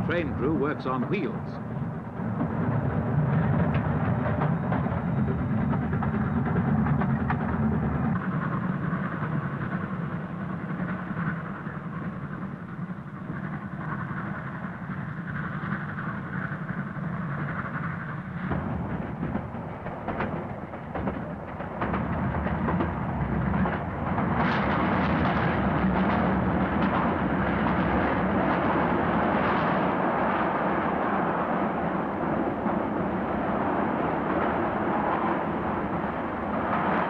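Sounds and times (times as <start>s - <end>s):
steam train rumble and rattle: 0.0s - 37.0s.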